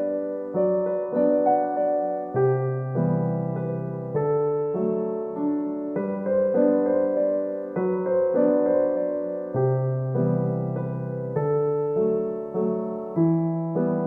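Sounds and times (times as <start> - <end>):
soft piano melody: 0.0 - 14.0.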